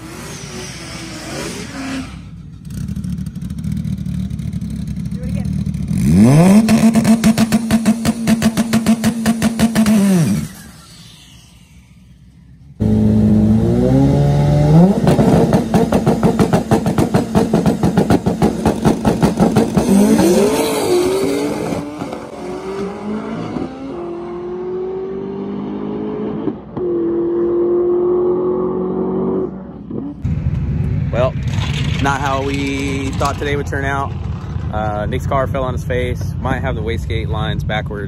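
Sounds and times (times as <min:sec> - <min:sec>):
car engine revving: 0:00.0 - 0:37.8.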